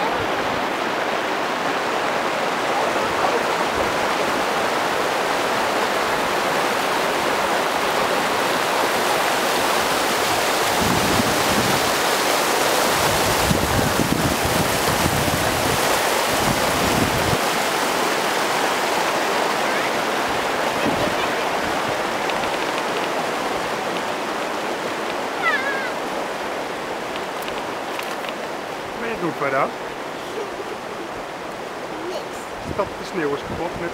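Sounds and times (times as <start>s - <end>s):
stream rushing over stones: 0.0s - 33.9s
wind gusts on microphone: 0.0s - 33.9s.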